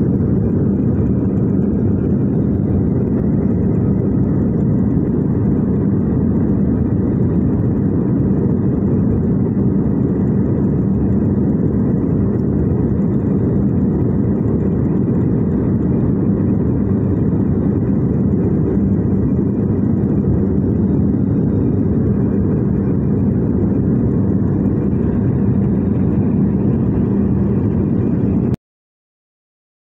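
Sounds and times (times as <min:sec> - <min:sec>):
airliner cabin rumble: 0:00.0 - 0:28.6
constant low hum: 0:00.0 - 0:28.6.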